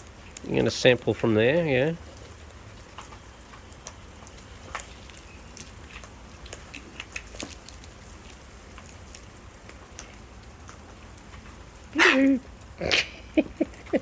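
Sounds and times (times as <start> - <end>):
rain dripping: 0.0 - 14.0.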